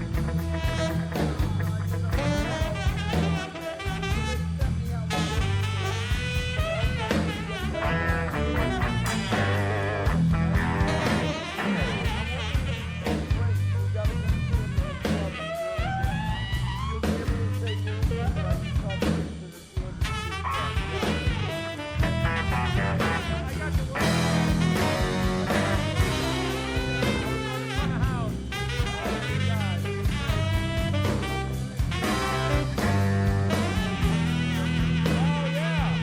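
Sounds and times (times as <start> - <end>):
lead guitar lines: 0.0 - 4.5, 5.1 - 18.2, 20.2 - 36.0
drum kit: 0.0 - 36.0.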